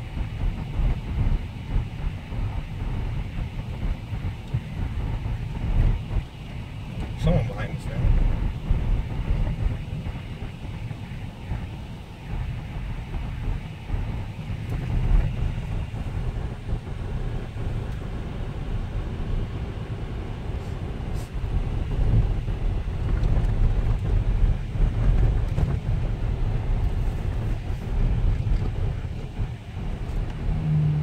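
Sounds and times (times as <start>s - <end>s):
engine and tyres rumbling: 0.0s - 31.0s.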